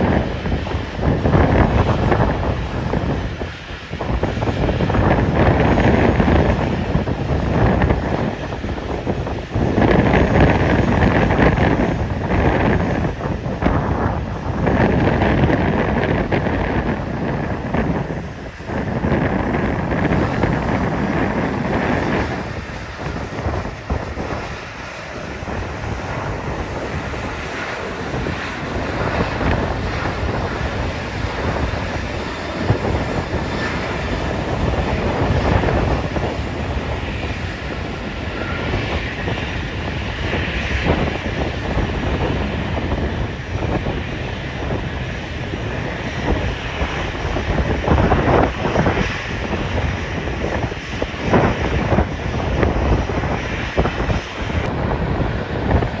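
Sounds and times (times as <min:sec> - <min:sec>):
airliner engine noise: 0:00.0 - 0:56.0
wind buffeting microphone: 0:00.0 - 0:56.0.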